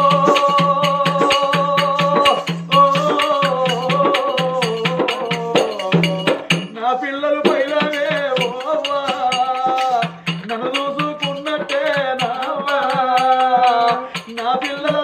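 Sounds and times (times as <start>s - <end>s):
fast drum and percussion beat: 0.0s - 15.0s.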